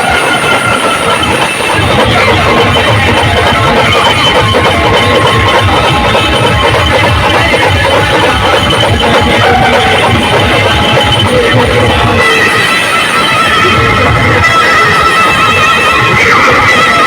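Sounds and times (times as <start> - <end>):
loud distorted dance music: 0.0 - 17.0.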